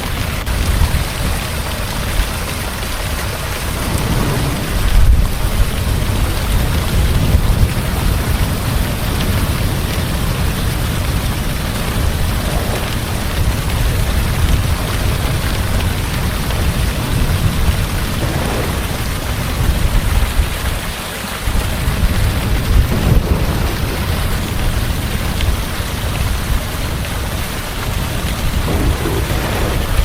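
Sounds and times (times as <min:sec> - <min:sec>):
heavy rain falling: 0:00.0 - 0:30.0
thunder rumbling: 0:00.5 - 0:30.0.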